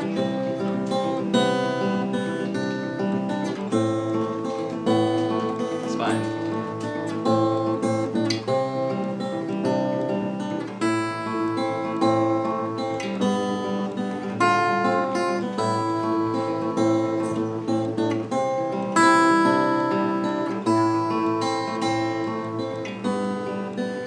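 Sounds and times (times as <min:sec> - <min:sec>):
acoustic guitar chords ringing: 0:00.0 - 0:24.0.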